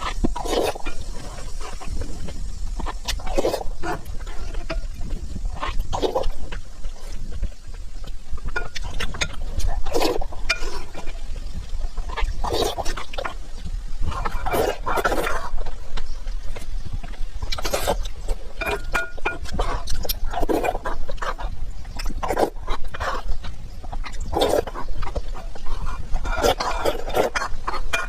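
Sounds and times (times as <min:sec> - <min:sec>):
wet chewing and mouth smacking: 0:00.0 - 0:28.0.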